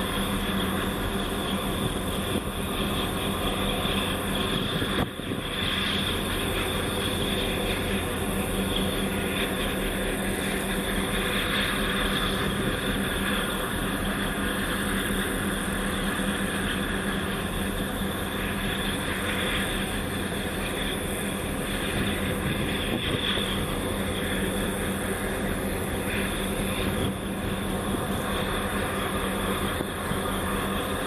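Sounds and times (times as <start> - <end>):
boat engine droning: 0.0 - 31.0
wind: 0.0 - 31.0.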